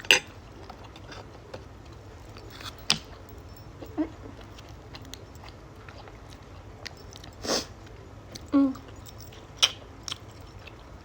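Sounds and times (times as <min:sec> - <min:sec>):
person chewing steak: 0:00.1 - 0:11.0.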